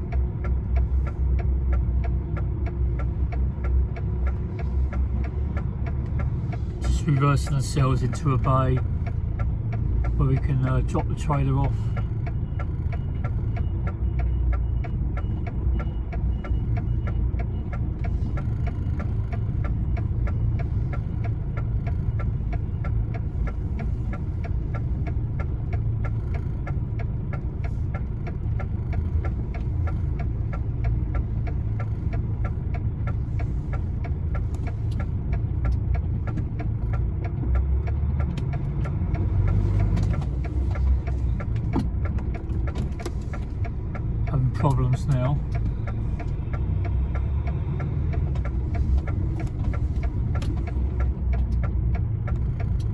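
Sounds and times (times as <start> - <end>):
diesel engine running: 0.0 - 52.9
regular ticking: 0.0 - 52.9.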